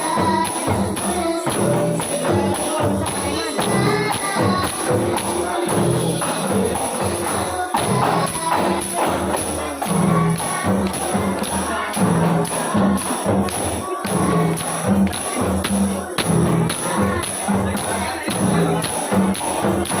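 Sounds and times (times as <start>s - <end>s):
girl singing in a high voice: 0.0s - 20.0s
tambourine and frame drum beat: 0.0s - 20.0s.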